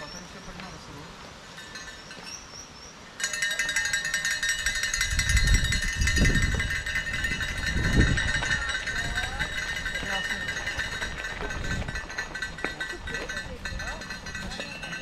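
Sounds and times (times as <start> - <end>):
cowbells ringing rapidly: 1.4 - 2.5, 3.2 - 15.0.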